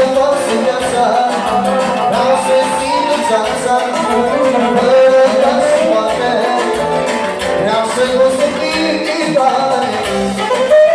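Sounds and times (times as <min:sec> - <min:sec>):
accordion: 0:00.0 - 0:10.9
electronic keyboard: 0:00.0 - 0:10.9
man singing into microphone: 0:00.0 - 0:10.9
saxophone: 0:01.3 - 0:09.0, 0:09.8 - 0:10.9.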